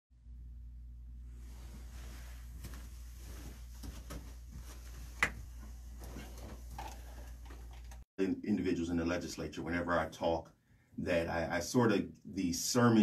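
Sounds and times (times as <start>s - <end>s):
low steady hum: 0.2s - 13.0s.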